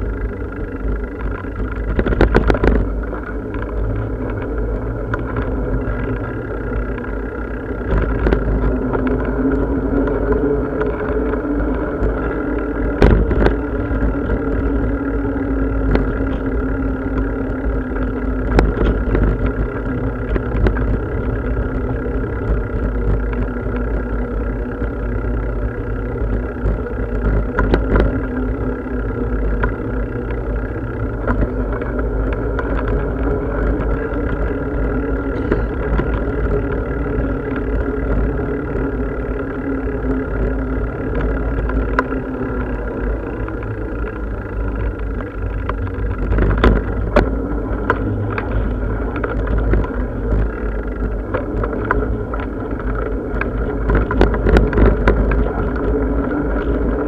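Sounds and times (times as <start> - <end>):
bicycle rattling knocks: 0.0 - 57.0
constant hum: 0.0 - 57.0
wind rumble on microphone: 0.0 - 57.0.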